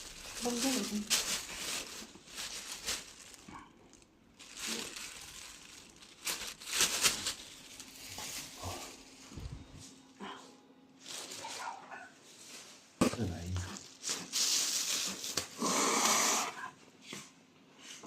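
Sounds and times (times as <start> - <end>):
rustling and crinkling: 0.0 - 15.6.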